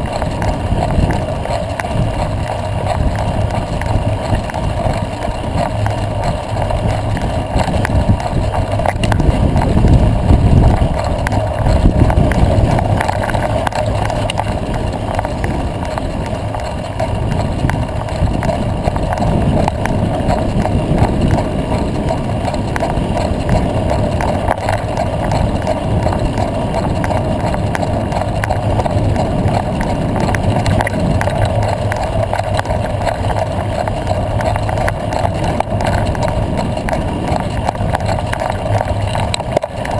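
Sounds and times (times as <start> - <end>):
bike rattling clicks: 0.0 - 39.9
bike tyres on dirt road: 0.0 - 39.9
wind rumbling on microphone: 0.0 - 39.9.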